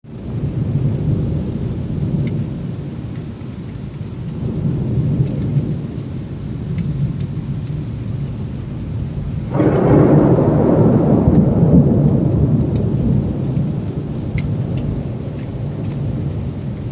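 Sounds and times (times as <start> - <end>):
heavy rain: 0.0 - 16.9
thunder rumbling: 0.0 - 16.9.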